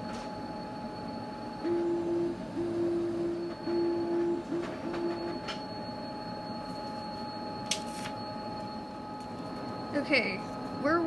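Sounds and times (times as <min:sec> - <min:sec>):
printer feed motor whine: 0:00.0 - 0:11.0.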